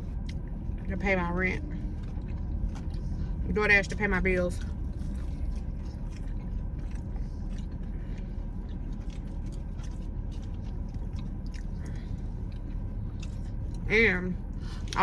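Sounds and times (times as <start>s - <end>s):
person chewing and smacking: 0.0s - 0.9s, 1.6s - 13.9s
car interior hum: 0.0s - 15.0s.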